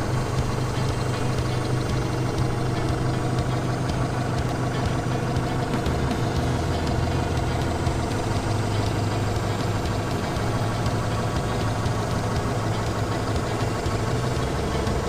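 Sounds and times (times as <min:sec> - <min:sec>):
forklift engine idling: 0:00.0 - 0:15.0.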